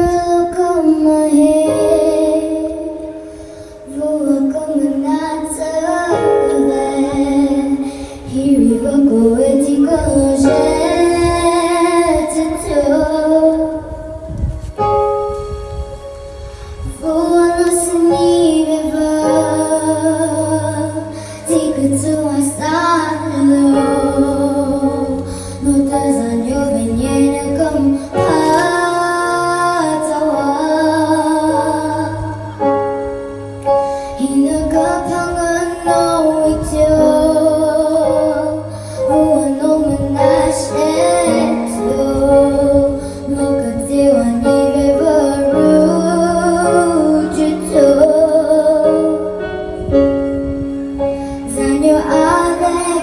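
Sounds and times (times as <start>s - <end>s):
woman singing: 0.0s - 14.4s, 16.9s - 32.8s, 34.1s - 49.8s, 51.4s - 53.0s.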